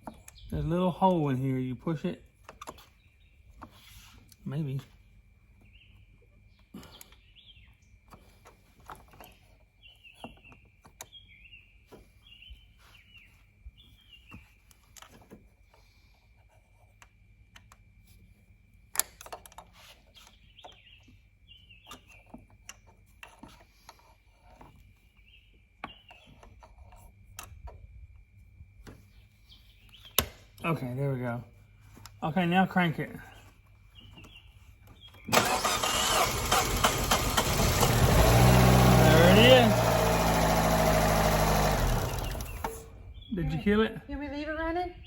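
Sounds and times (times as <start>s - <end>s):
small birds chirping: 0.0s - 18.8s, 19.4s - 27.4s, 28.6s - 36.8s, 40.9s - 45.0s.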